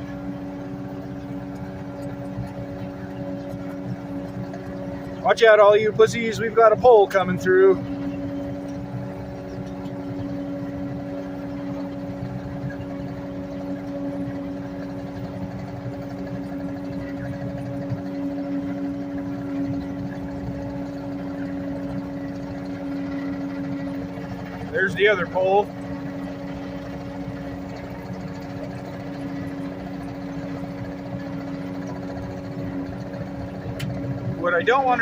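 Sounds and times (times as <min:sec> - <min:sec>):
skid steer engine droning: 0:00.0 - 0:35.0.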